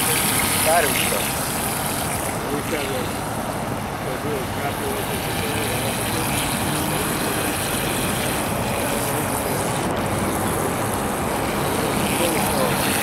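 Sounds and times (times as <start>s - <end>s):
rc speedboat motor whir: 0.0s - 13.0s.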